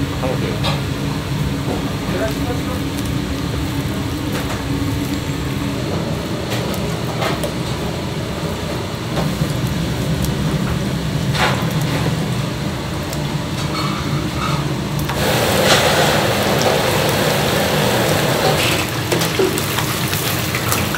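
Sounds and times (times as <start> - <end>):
oil bubbling in deep fryer: 0.0 - 20.9.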